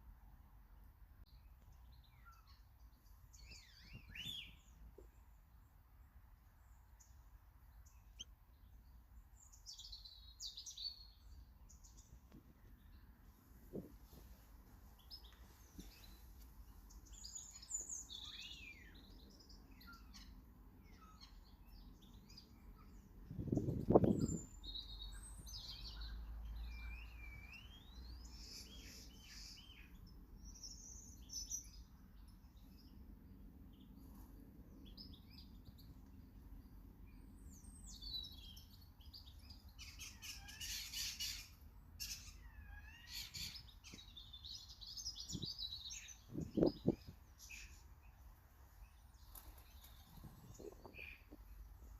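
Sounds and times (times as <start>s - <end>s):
small birds chirping and singing: 1.2s - 51.9s.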